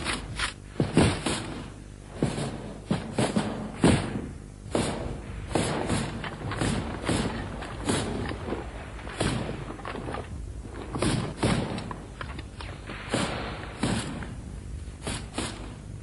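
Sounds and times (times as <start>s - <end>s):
rifle single shots: 0.0s - 14.4s, 15.0s - 15.9s.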